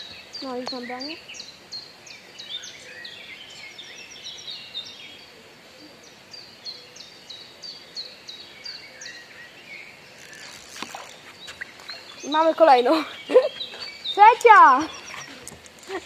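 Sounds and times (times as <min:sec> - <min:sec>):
faint outdoor background noise: 0:00.0 - 0:16.0
songbirds singing: 0:00.0 - 0:16.0.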